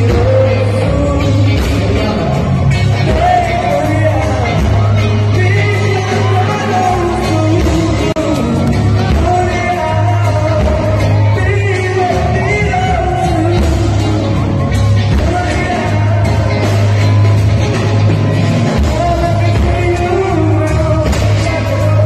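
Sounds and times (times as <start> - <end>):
bass line: 0.0 - 22.0
man singing: 0.0 - 22.0.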